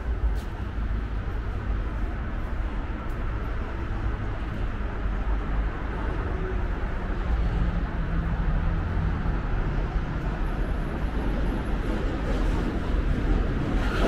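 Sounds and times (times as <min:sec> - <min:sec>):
passing traffic rumble: 0:00.0 - 0:14.0.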